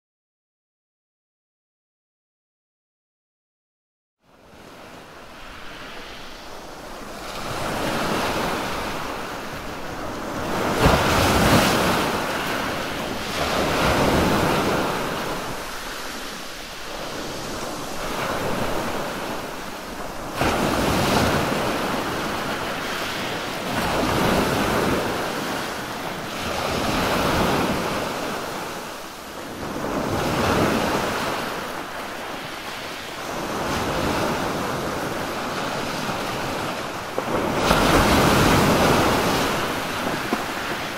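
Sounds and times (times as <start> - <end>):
sea waves breaking on beach: 4.3 - 40.9.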